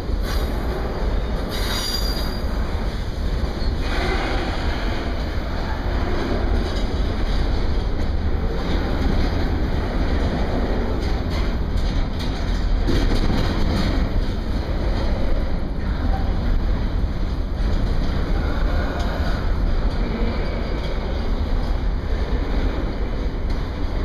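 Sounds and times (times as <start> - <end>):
steel wheels rumbling on rail: 0.0 - 24.0.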